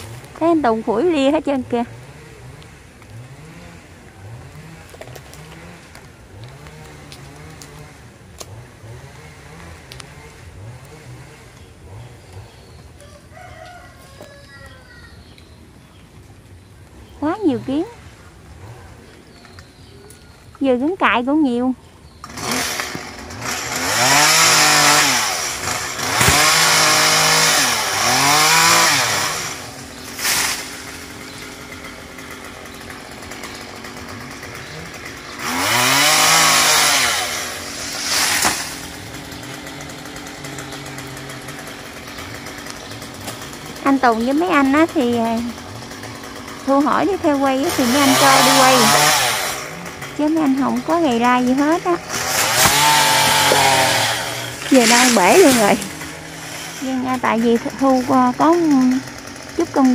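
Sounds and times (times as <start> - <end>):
chainsaw revving: 0.0 - 15.0, 16.8 - 19.4, 20.7 - 59.9.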